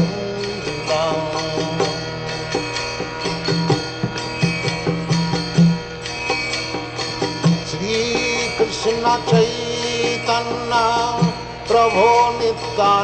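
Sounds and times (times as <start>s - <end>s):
plucked string instrument: 0.0s - 13.0s
steady drone: 0.0s - 13.0s.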